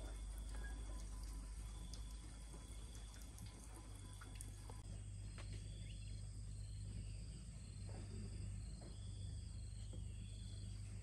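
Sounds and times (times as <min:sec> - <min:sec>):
insects chirping: 0:00.0 - 0:11.0
low hum: 0:00.0 - 0:11.0.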